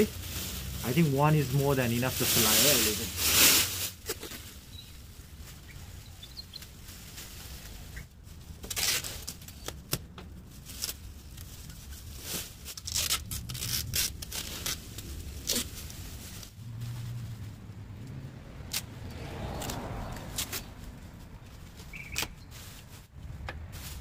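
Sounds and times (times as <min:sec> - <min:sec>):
plastic sheeting crinkling: 0:00.0 - 0:18.0, 0:19.3 - 0:24.0.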